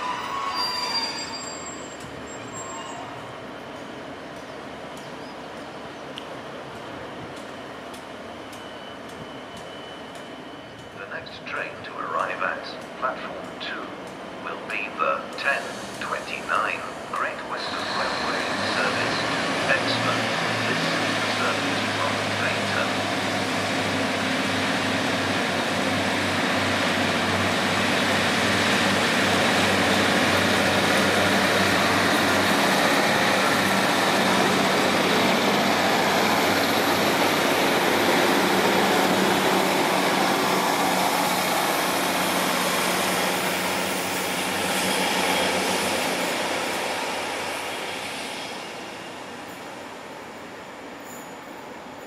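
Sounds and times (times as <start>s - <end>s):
train wheels on rails: 0.0s - 52.0s
diesel train engine hum: 1.9s - 52.0s.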